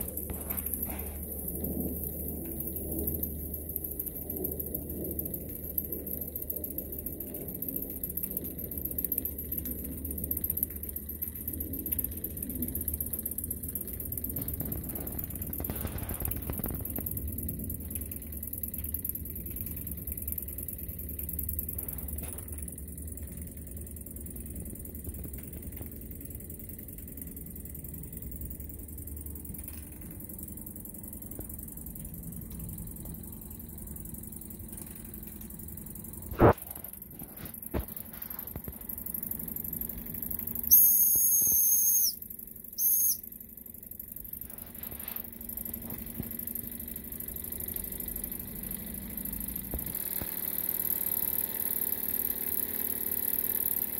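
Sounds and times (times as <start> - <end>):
toy steam engine clattering: 0.0 - 53.9.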